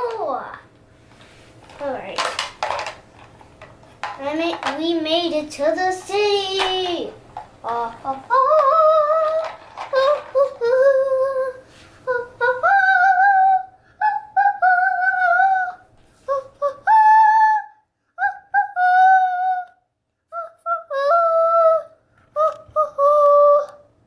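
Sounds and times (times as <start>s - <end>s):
child singing: 4.2s - 23.9s.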